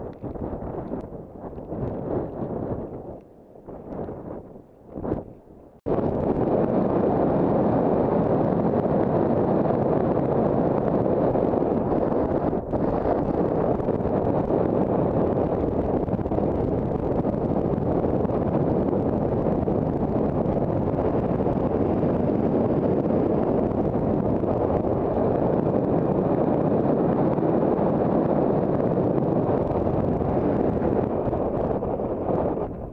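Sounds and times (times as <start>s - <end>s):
wind on microphone: 0.0s - 32.9s.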